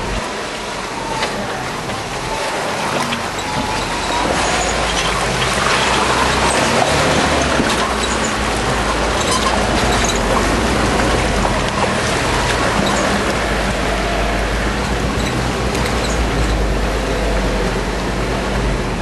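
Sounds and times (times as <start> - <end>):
engine rumbling under load: 0.0 - 19.0
tyres working through mud: 0.0 - 19.0.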